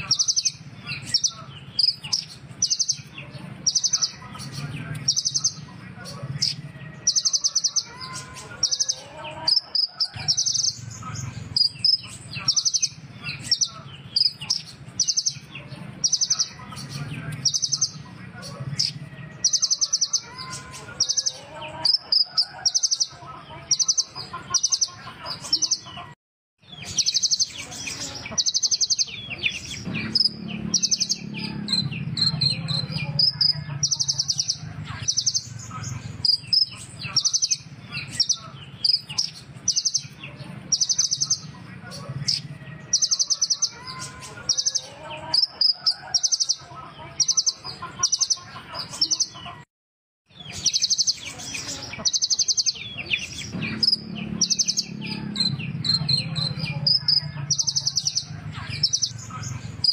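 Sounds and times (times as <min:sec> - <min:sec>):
bird singing rapid trills: 0:00.0 - 0:26.0, 0:26.6 - 0:49.4, 0:50.3 - 0:59.9.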